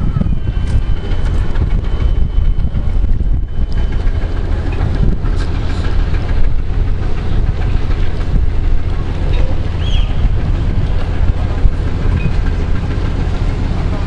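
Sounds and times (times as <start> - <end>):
open water noise: 0.0 - 14.0
wind buffeting microphone: 0.0 - 14.0.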